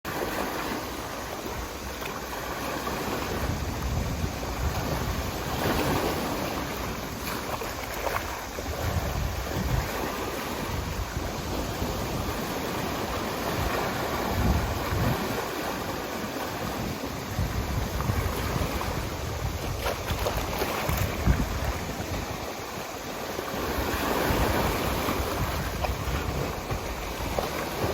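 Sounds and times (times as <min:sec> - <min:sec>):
sea waves breaking on shore: 0:00.1 - 0:27.9
wind rumbling on microphone: 0:00.1 - 0:27.9.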